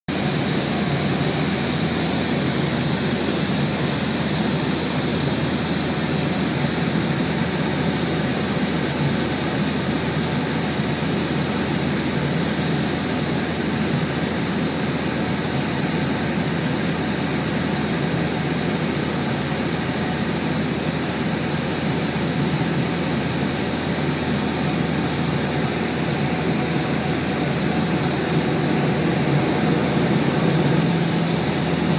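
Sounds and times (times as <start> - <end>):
aircraft engines droning: 0.2 - 31.9.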